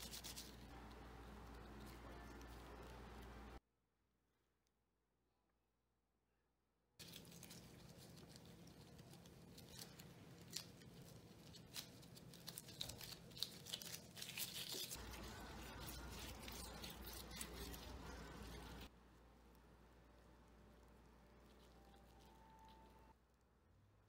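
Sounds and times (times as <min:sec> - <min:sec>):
rustling of disposable gloves: 0:00.0 - 0:03.6, 0:07.0 - 0:23.2.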